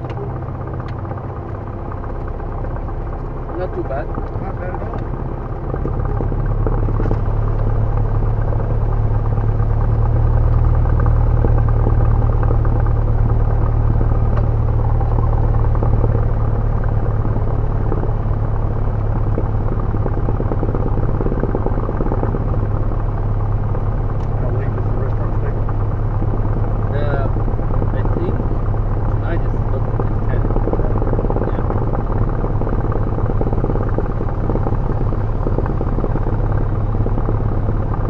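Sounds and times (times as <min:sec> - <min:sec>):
aircraft engine droning: 0:00.0 - 0:38.0.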